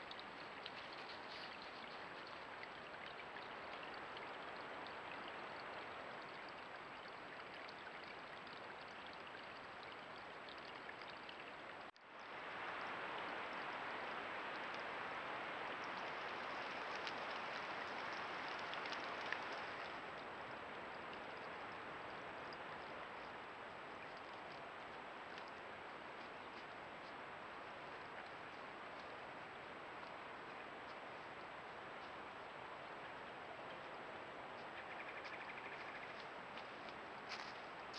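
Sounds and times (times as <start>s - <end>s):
creek water flowing: 0.0s - 37.9s.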